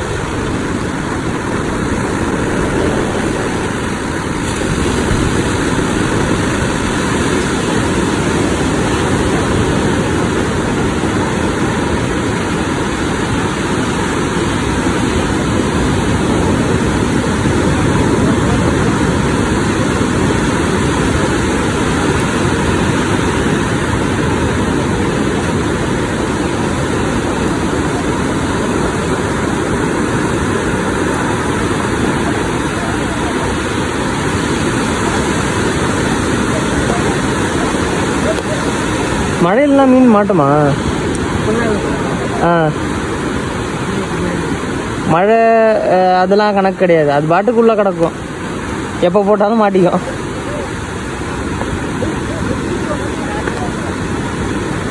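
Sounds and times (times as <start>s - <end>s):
surf breaking on beach: 0.0s - 54.9s.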